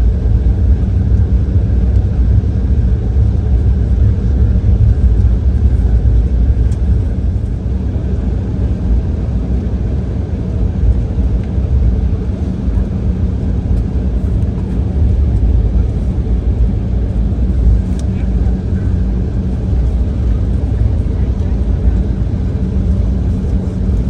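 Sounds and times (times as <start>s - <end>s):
deep rumble of jet engines: 0.0s - 24.0s.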